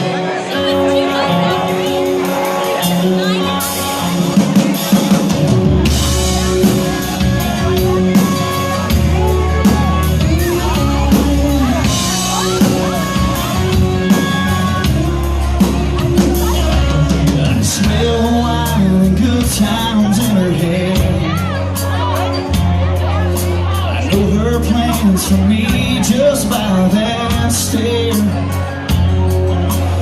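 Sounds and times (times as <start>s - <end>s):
drums: 0.0s - 30.0s
heavy bass: 0.0s - 30.0s
live rock band playing: 0.0s - 30.0s.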